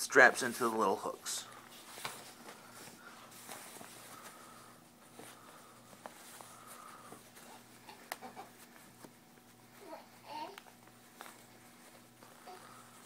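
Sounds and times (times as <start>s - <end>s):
fabric rustling: 0.2s - 13.0s.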